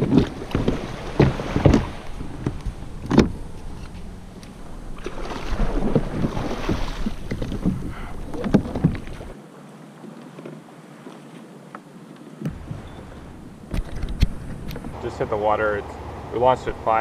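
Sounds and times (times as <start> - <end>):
rushing water and wind: 0.0 - 17.0.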